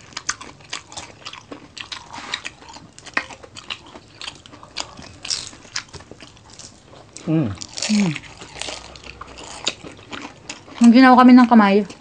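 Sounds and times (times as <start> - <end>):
crunching fried food: 0.0 - 12.0.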